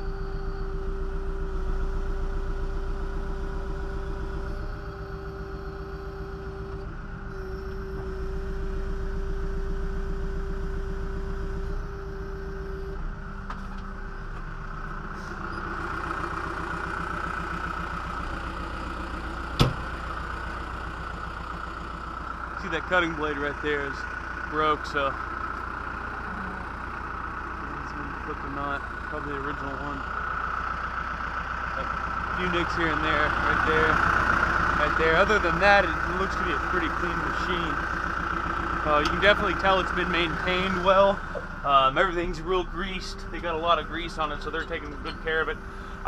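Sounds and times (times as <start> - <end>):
diesel engine running: 0.0 - 46.0
hydraulics whine: 0.0 - 46.0.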